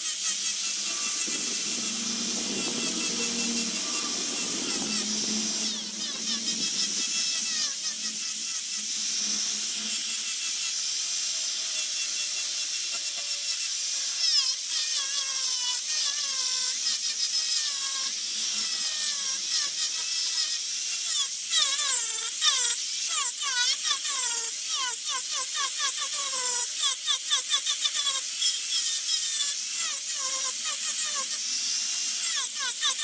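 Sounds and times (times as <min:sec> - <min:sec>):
rotary carving tool cutting wood: 0:00.0 - 0:33.0.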